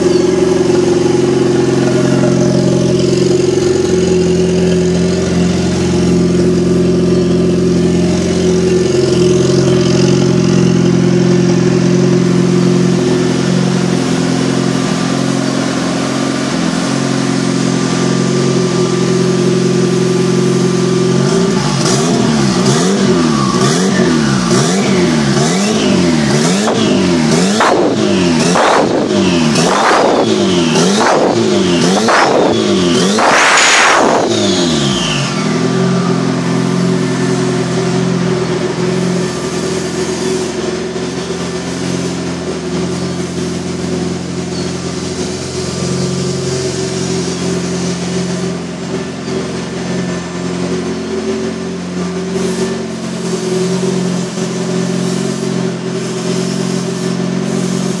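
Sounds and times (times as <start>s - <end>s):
buggy engine revving and idling: 0.0s - 58.0s.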